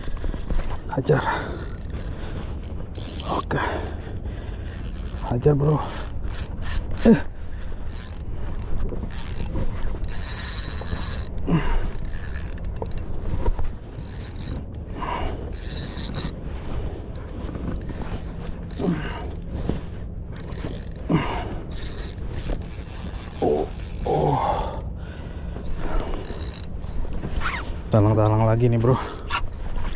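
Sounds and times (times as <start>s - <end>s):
fishing reel being cranked: 1.1s - 4.0s, 4.6s - 24.9s, 25.8s - 27.6s, 28.2s - 29.4s.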